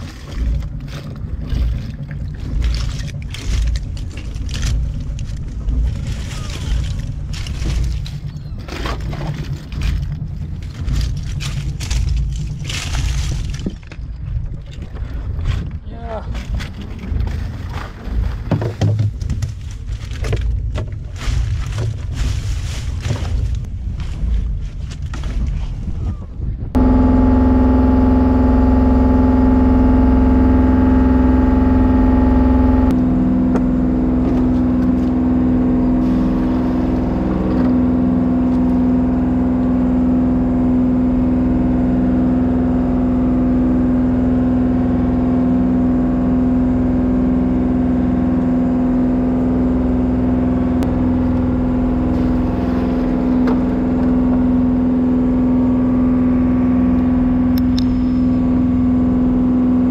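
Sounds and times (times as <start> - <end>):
boat engine droning: 0.0 - 15.8, 26.6 - 59.9.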